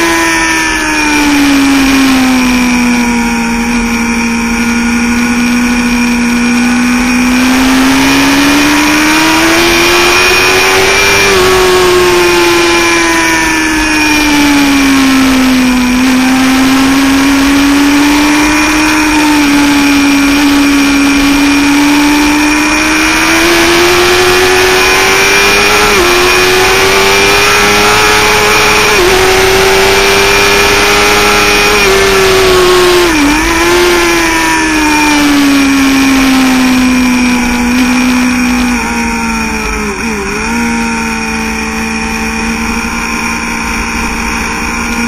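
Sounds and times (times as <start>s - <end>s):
motorcycle engine running hard: 0.0s - 45.0s.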